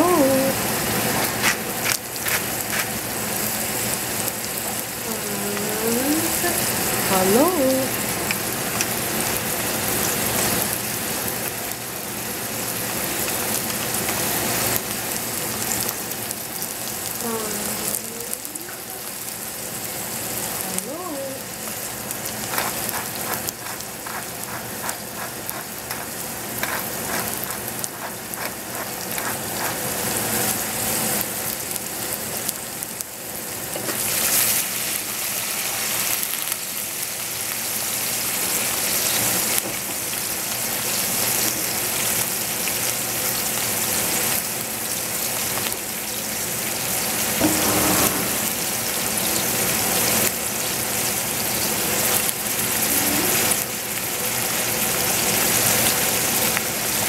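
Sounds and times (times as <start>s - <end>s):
zucchini sizzling in a saucepan: 0.0s - 57.0s.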